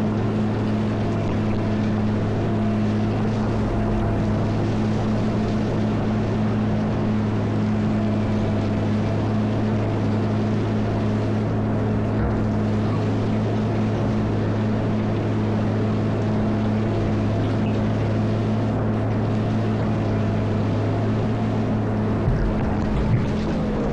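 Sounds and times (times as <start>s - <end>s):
diesel engine low drone: 0.0s - 23.9s.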